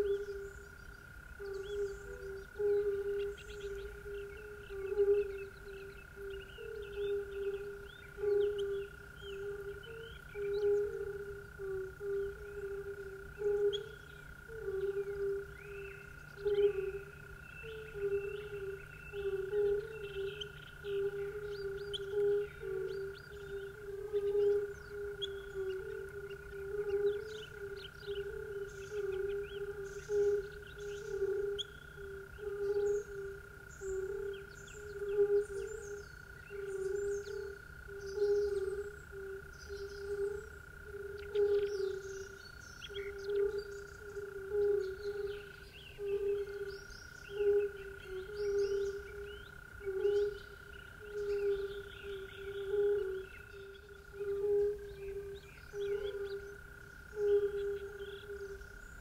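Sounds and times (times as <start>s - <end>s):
birds chirping: 0.0s - 11.3s, 13.4s - 59.0s
frogs croaking: 0.0s - 59.0s.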